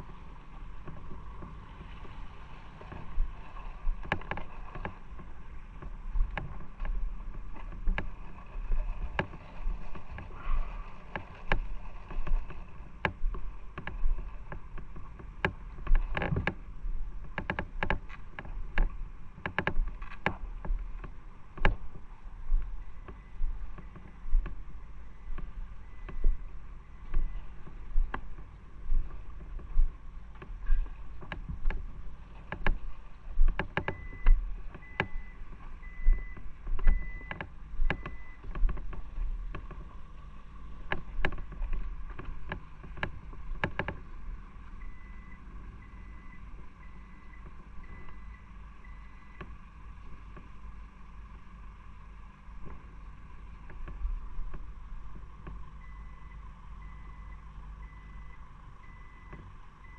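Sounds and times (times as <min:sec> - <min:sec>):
low background rumble: 0:00.0 - 0:59.9.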